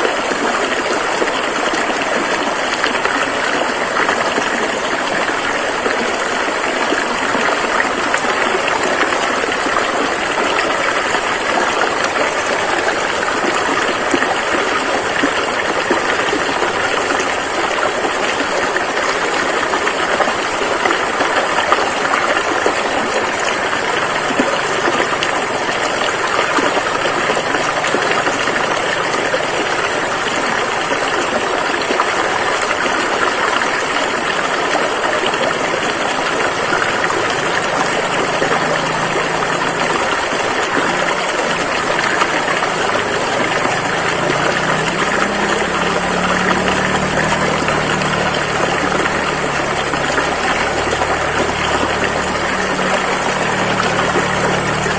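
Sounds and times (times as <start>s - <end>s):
rushing river water: 0.0s - 54.9s.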